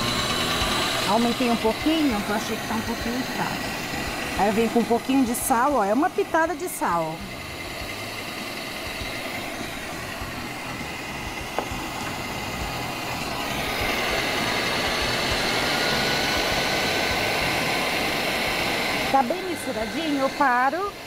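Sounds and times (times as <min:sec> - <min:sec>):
stand mixer motor running: 0:00.0 - 0:21.0.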